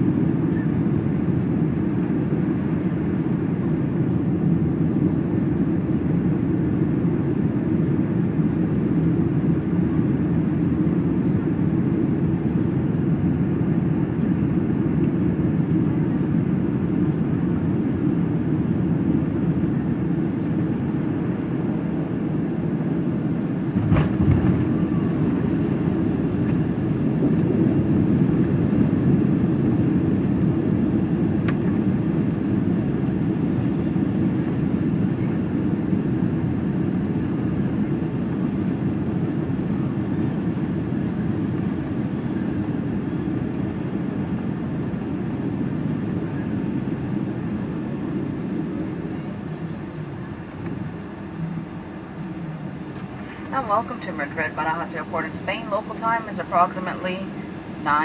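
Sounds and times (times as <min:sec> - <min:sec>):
aircraft engine and airflow rumble: 0:00.0 - 0:58.0.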